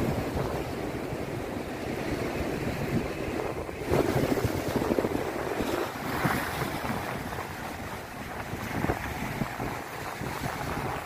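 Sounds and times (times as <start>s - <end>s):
sea surf breaking on concrete: 0.0s - 11.0s
wind buffeting microphone: 0.0s - 11.0s.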